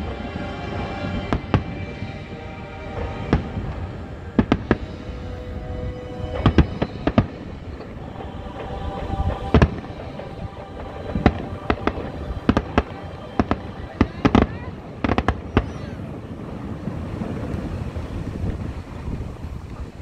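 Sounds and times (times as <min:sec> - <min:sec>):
faint music with held tones: 0:00.0 - 0:16.6
fireworks bursting: 0:00.0 - 0:19.8.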